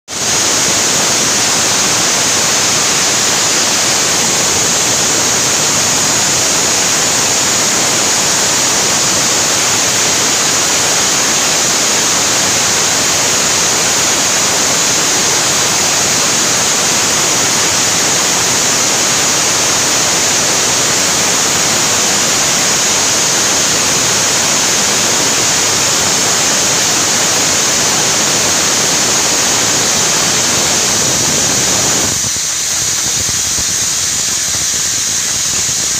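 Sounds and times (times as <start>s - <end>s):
compressed air and water blasting: 0.1s - 35.9s.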